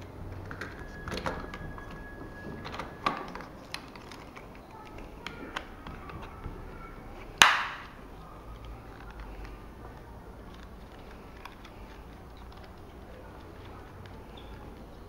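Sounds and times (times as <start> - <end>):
plastic bag rustling: 0.0 - 15.0.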